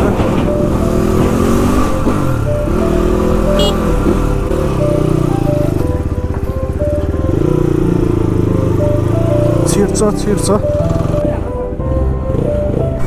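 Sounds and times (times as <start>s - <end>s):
background music: 0.0s - 13.0s
motorcycle engine running: 0.6s - 13.0s.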